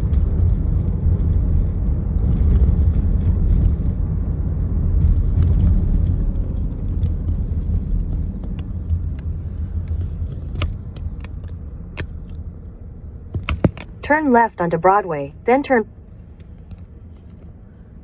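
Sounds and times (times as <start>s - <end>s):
car road rumble: 0.0s - 18.0s.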